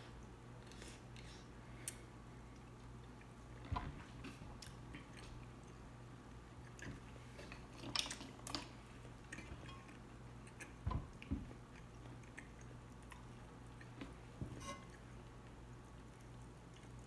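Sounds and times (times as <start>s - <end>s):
chewing mussel: 1.9s - 17.0s.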